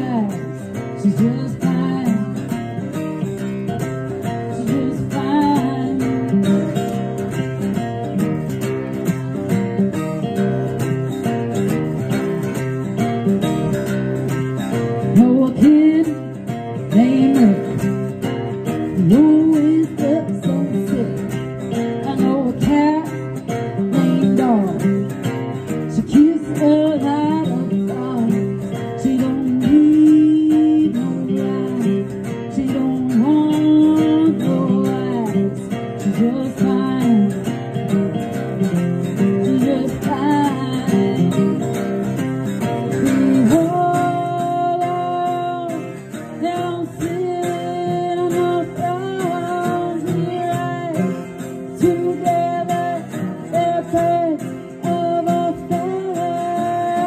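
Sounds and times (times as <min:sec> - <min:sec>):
strummed acoustic guitars: 0:00.0 - 0:57.0
woman singing: 0:00.0 - 0:57.0.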